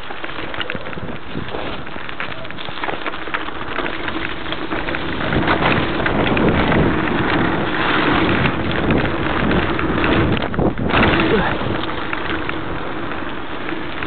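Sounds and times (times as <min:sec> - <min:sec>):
bike clicks and rattles: 0:00.0 - 0:14.0
bike tyres on dirt and stones: 0:00.0 - 0:14.0.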